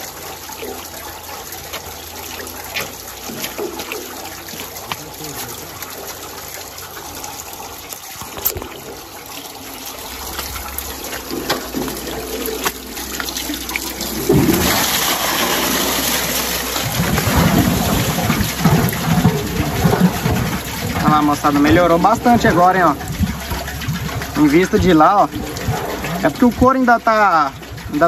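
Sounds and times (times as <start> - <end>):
water rushing and splashing: 0.0 - 28.0.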